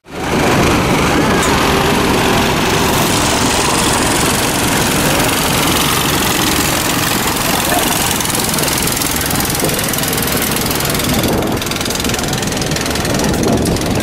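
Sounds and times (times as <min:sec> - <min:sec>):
boat engine throbbing: 0:00.0 - 0:14.0
rushing noise: 0:00.0 - 0:14.0.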